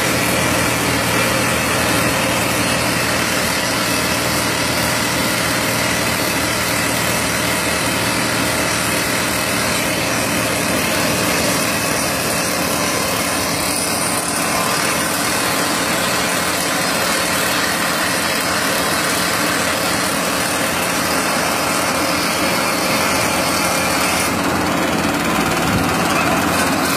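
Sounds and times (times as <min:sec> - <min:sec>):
stone-crushing machinery running: 0:00.0 - 0:26.9.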